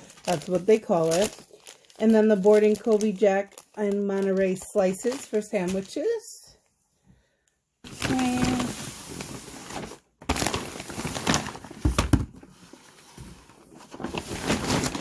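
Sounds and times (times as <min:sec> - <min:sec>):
plastic packaging crinkling: 0:00.0 - 0:06.3, 0:07.9 - 0:15.0.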